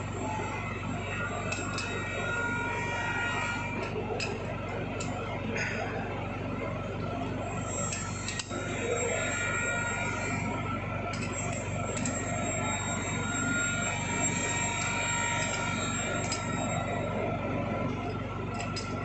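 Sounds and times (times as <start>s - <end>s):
workshop machinery humming: 0.0s - 19.0s.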